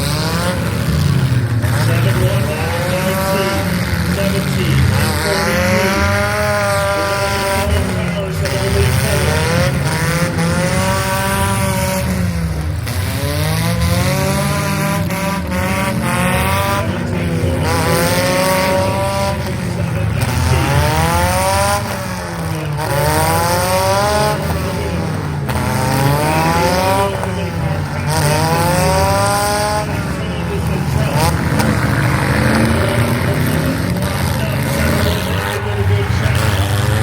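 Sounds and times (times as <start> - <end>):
car engines revving hard: 0.0 - 37.0
cars crunching into each other: 0.0 - 37.0.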